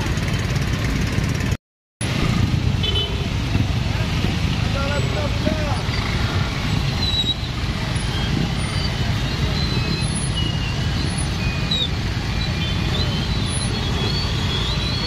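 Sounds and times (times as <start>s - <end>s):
engines idling in traffic: 0.0s - 15.0s.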